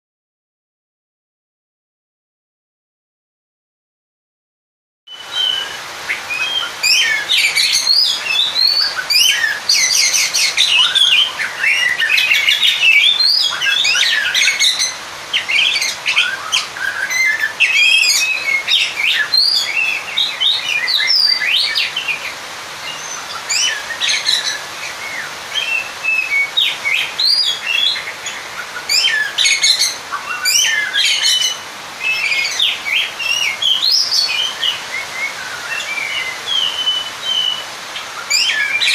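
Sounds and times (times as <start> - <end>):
bird singing chirps and trills: 5.1 - 38.9.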